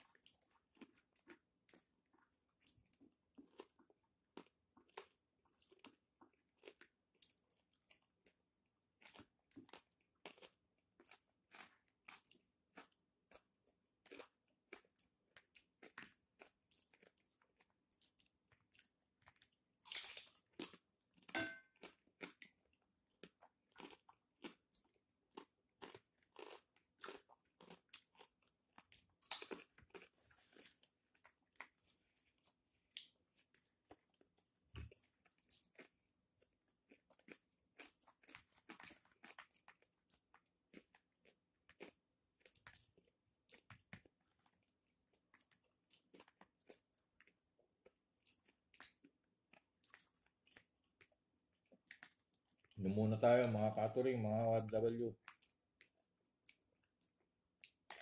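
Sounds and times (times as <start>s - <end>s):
person chewing crispy food: 0.0s - 53.7s, 54.3s - 58.0s.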